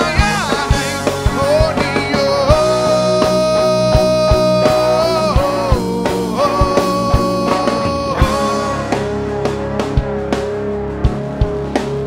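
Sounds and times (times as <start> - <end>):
drum kit hits: 0.0 - 12.0
rock band playing live: 0.0 - 12.0.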